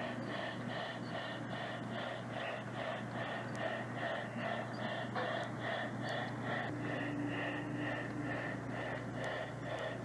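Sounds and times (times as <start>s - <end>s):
low steady hum: 0.0s - 10.0s
model steam locomotive chuffs: 0.0s - 10.0s.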